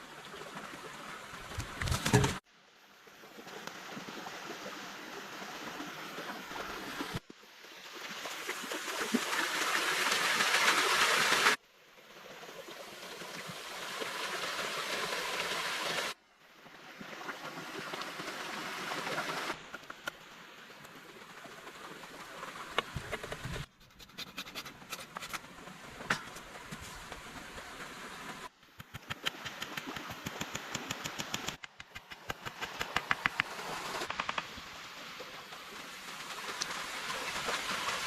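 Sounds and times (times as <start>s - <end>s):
rushing stream water: 0.0s - 23.7s, 25.4s - 38.0s.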